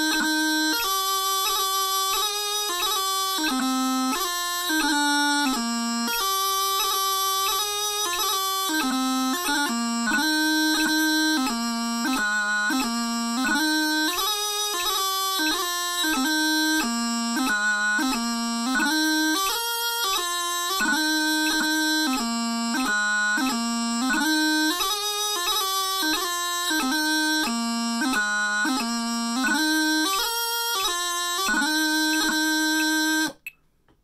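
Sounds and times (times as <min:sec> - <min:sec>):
practice chanter playing reedy melody: 0:00.0 - 0:33.5.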